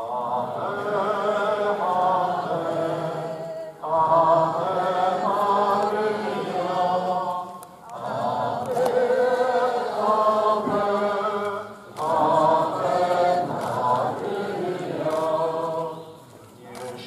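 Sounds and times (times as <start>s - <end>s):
crowd singing a hymn: 0.0s - 17.0s.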